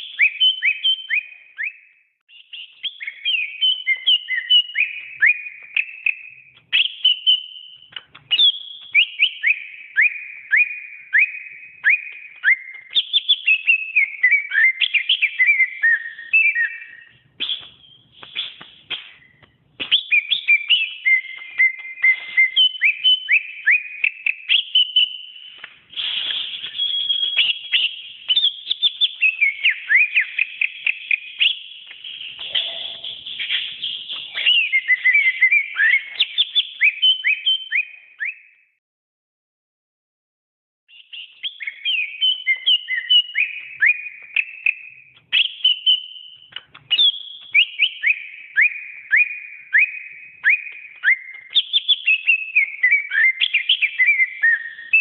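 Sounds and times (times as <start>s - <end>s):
bird singing whistled notes: 0.0s - 38.8s, 40.9s - 55.0s.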